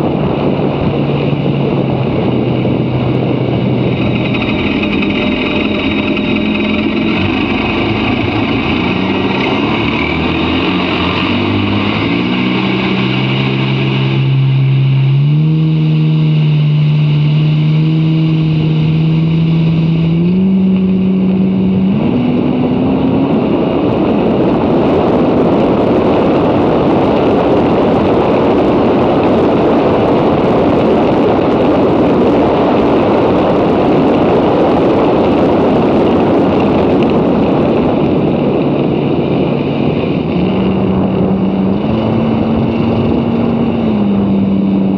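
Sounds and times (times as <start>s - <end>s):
jet ski engine accelerating: 0.0s - 44.9s
rushing wind and water: 0.0s - 44.9s.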